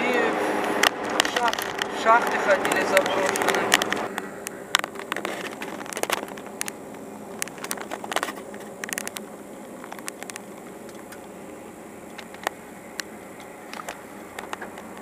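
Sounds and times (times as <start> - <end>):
car cabin noise: 0.0 - 15.0
sharp clicks and crackles: 0.6 - 11.4, 12.0 - 15.0.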